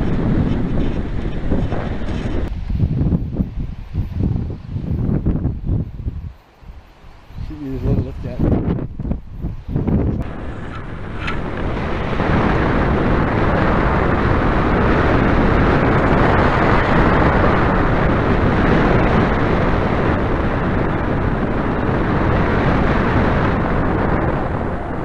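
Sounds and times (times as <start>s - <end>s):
wind roaring over microphone: 0.0s - 25.0s.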